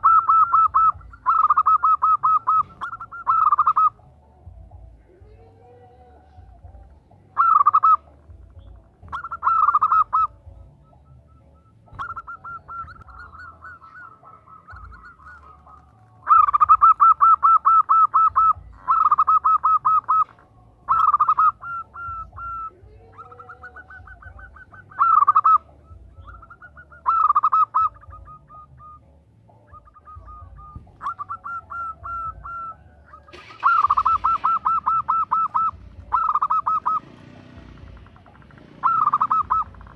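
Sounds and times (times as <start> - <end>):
dove calling in pulsed notes: 0.0 - 39.9.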